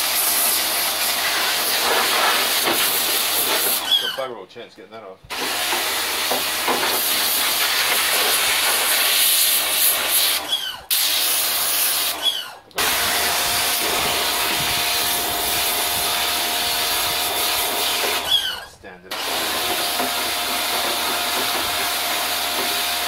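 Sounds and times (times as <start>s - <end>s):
pressure washer spray hissing: 0.0s - 4.1s, 5.3s - 18.4s, 19.2s - 23.0s.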